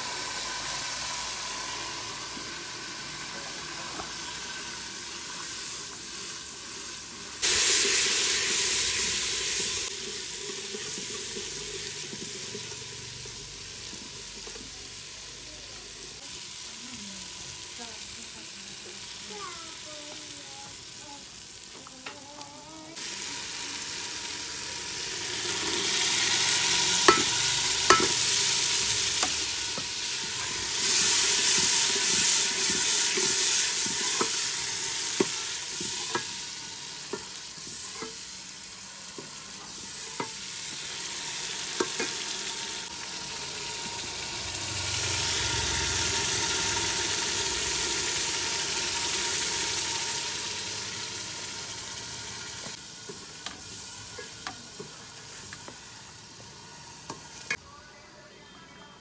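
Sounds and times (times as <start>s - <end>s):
peas sizzling in hot oil: 0.0s - 57.7s.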